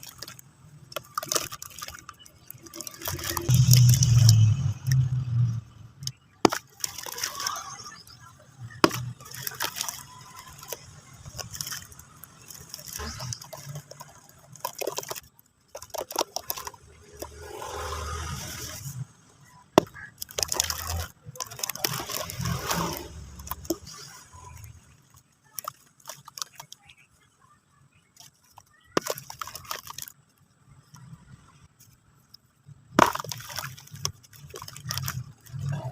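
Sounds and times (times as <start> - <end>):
gritty scraping: 0.0 - 27.1, 28.0 - 35.9
cement chunks crunching and cracking: 0.0 - 27.3, 27.9 - 35.9.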